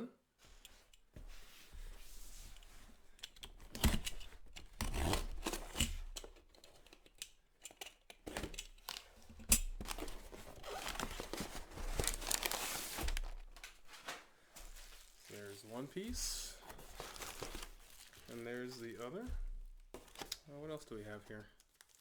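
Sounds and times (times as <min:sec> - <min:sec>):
packing material tearing and rustling: 0:03.2 - 0:22.0.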